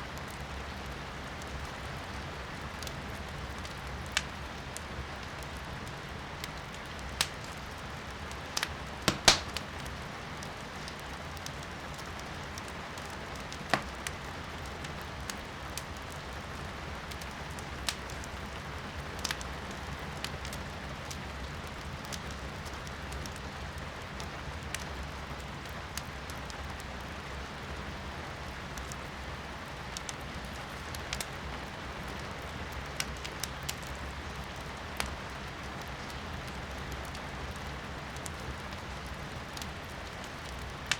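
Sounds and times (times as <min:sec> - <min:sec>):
rain heard from indoors: 0:00.0 - 0:40.9
firewood crackling and popping: 0:00.2 - 0:40.9.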